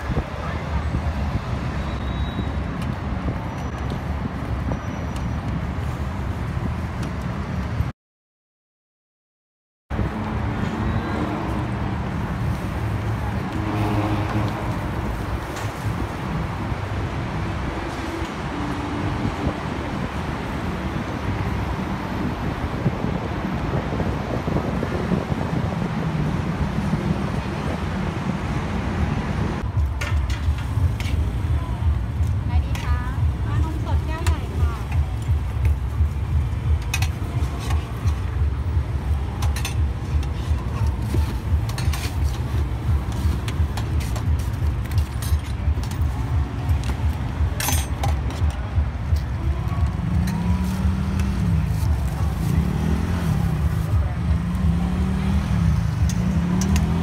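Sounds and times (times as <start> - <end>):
road traffic rumble: 0.0 - 7.9, 9.9 - 57.0.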